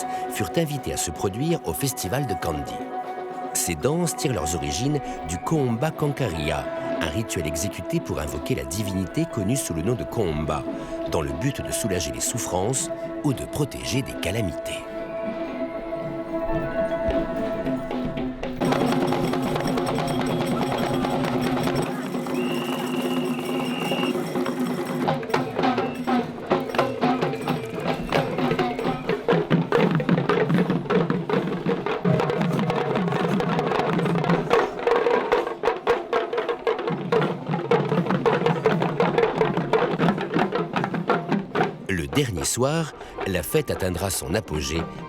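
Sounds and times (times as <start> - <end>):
traditional percussion music: 0.0 - 45.0.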